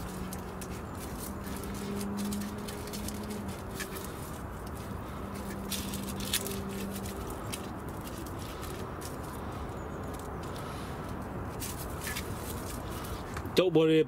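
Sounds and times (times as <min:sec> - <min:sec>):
small crackles and clicks: 0:00.0 - 0:13.5
hands rustling in damp soil: 0:00.0 - 0:13.6.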